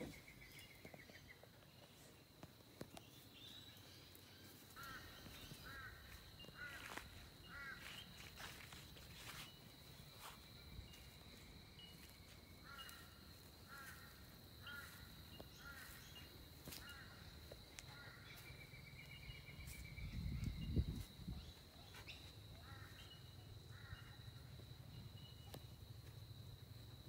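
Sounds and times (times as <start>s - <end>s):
birds calling: 0.0s - 25.8s.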